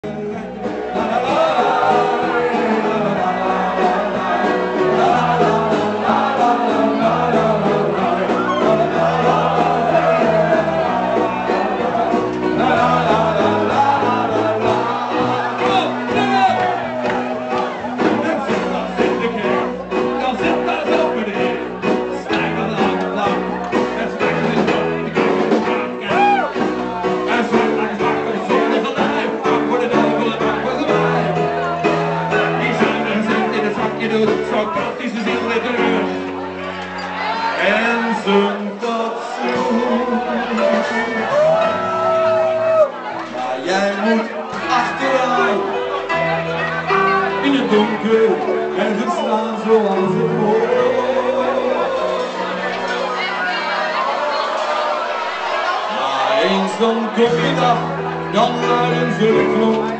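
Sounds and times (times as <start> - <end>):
crowd shouting along: 0.0 - 59.9
live band with singer: 0.0 - 59.9.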